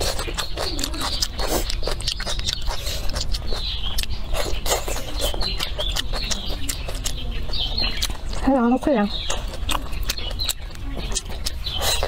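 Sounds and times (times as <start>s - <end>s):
wet chewing and mouth clicks: 0.0s - 12.0s.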